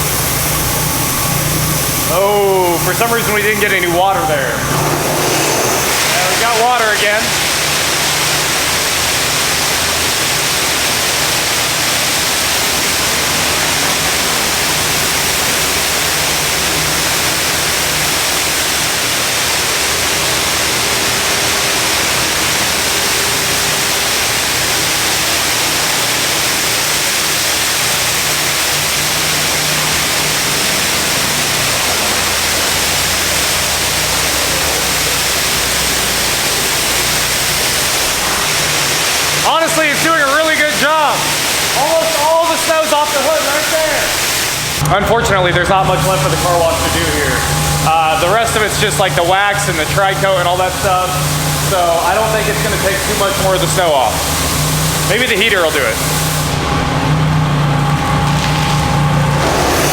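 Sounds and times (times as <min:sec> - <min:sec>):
faint machinery hum: 0:00.0 - 0:59.9
high-pressure water jets hissing: 0:00.0 - 0:59.9.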